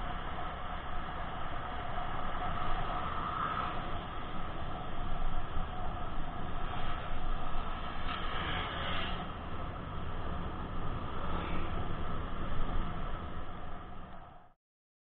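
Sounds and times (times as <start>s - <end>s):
road and wind noise: 0.0s - 14.5s.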